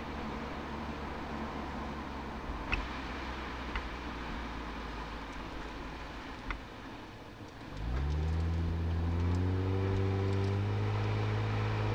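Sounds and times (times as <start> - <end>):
car engine rumble: 0.0 - 11.9.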